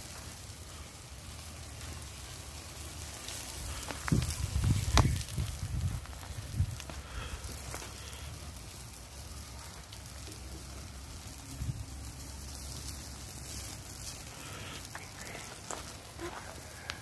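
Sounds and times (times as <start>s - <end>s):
wood fire crackling and hissing: 0.0s - 17.0s.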